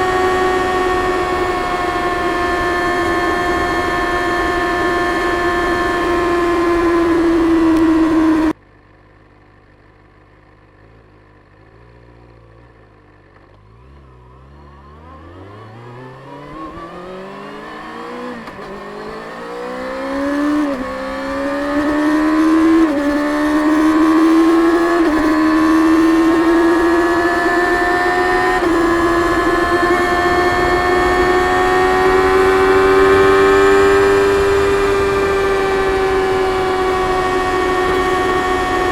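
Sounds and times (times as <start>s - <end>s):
motorcycle engine revving: 0.0s - 8.6s, 10.7s - 38.9s.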